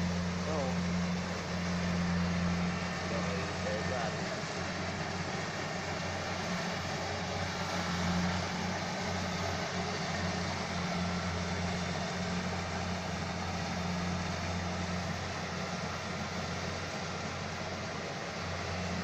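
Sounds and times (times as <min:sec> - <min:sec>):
harvester engine humming: 0:00.0 - 0:19.0.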